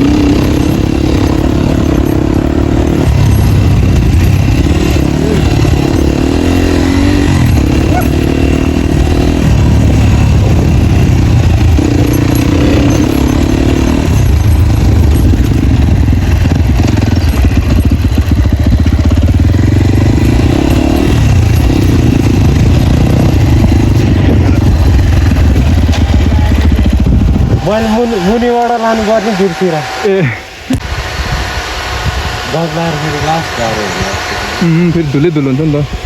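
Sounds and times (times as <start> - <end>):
loud motorcycle engine revving: 0.0 - 36.0.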